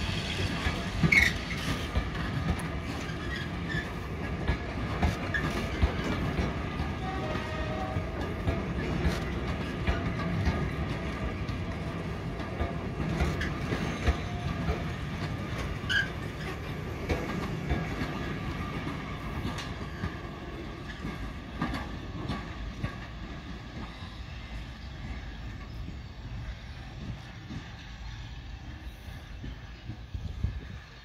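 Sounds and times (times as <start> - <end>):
train passing with wheels clicking: 0.0 - 31.0.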